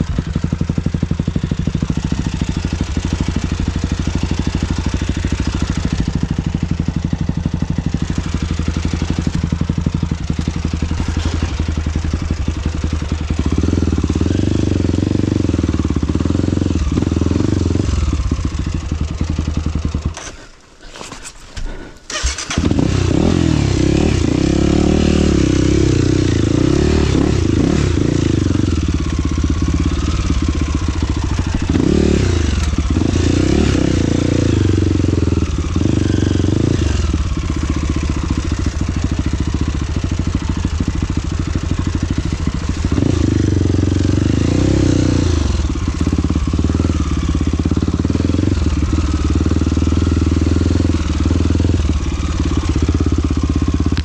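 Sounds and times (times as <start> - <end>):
engine revving under load: 8.0 - 53.5.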